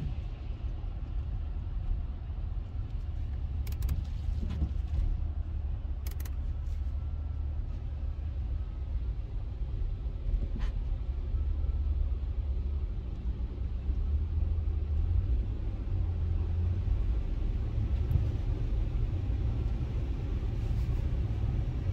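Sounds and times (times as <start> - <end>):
vehicle driving rumble: 0.0 - 21.9.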